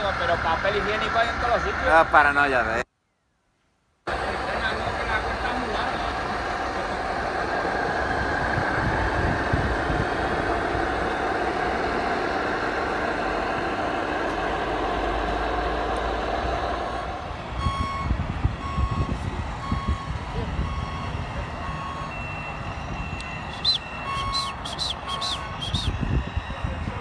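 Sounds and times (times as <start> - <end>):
truck engine sound: 0.0 - 2.8, 4.1 - 27.0
reversing alarm beeping: 5.0 - 27.0.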